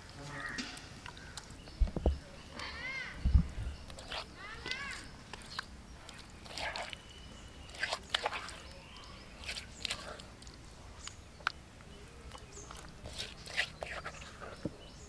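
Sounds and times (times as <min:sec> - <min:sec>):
wet paste squelching and scraping: 0:00.6 - 0:15.0.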